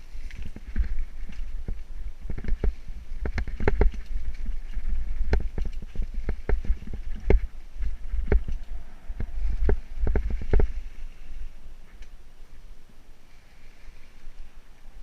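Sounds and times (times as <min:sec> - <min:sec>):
bike clattering over rough trail: 0:00.0 - 0:12.2
wind rumble on microphone: 0:00.0 - 0:15.0.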